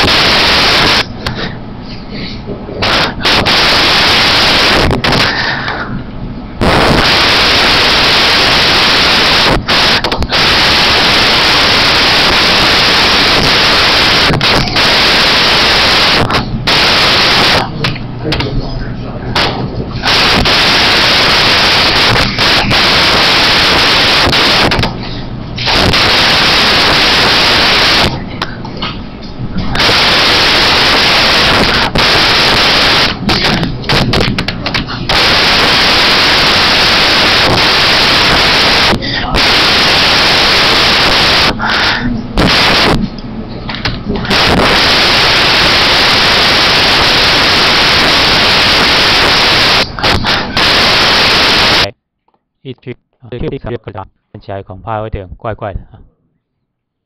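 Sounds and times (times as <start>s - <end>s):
static hiss: 0.0s - 18.7s, 19.4s - 52.0s.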